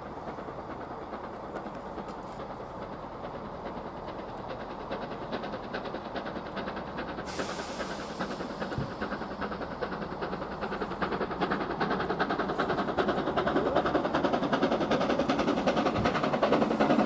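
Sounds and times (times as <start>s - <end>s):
steam hiss: 0.0s - 17.0s
steam locomotive rhythmic beat: 0.0s - 17.0s.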